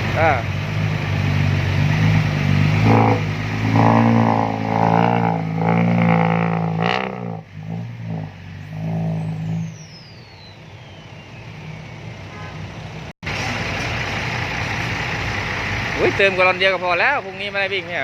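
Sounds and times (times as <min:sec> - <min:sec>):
diesel truck engine revving: 0:00.0 - 0:12.2, 0:12.8 - 0:18.0.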